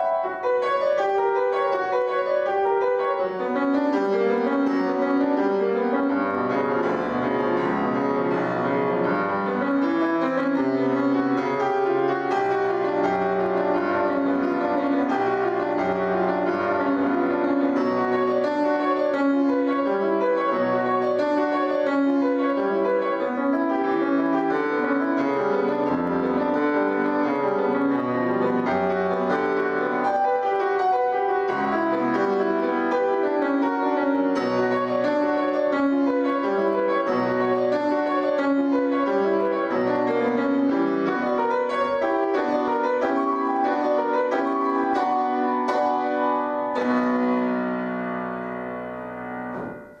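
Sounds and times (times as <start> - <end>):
piano playing quick notes: 0.0 - 50.0.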